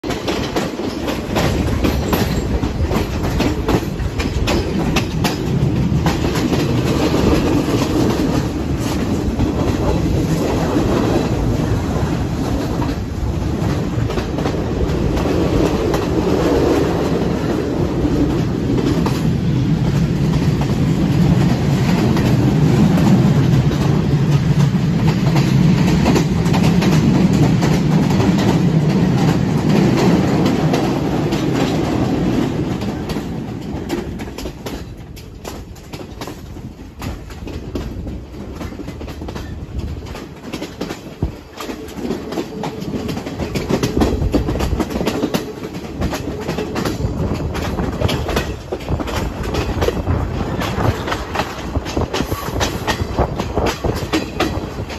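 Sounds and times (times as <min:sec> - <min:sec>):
train rumbling: 0:00.0 - 0:54.9
wheels clicking over rail joints: 0:00.0 - 0:54.9.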